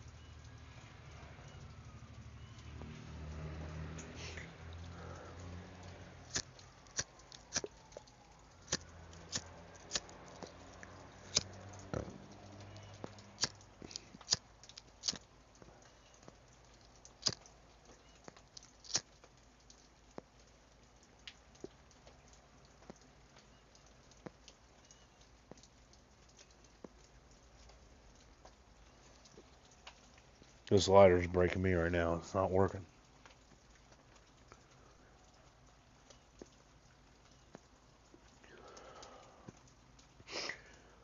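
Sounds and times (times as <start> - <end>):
faint rain hiss: 0.0 - 41.0
raindrops ticking on hard surface: 0.0 - 41.0.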